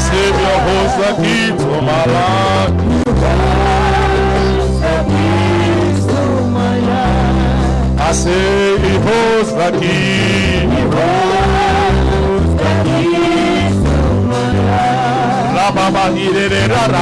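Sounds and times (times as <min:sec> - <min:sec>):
steady bass notes: 0:00.0 - 0:17.0
voice singing long lines: 0:00.0 - 0:17.0.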